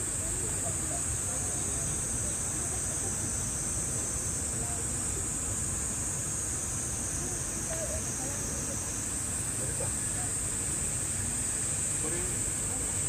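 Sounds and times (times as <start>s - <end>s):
faint distant voices: 0.0s - 13.0s
insects droning: 0.0s - 13.0s.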